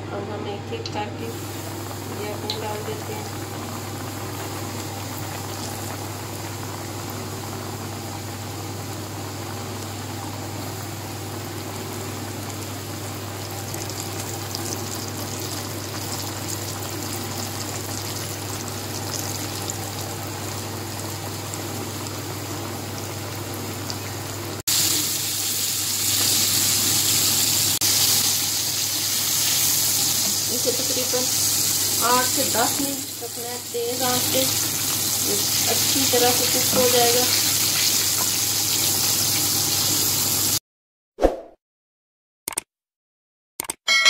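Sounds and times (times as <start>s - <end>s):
chicken deep-frying in hot oil: 0.8s - 40.6s.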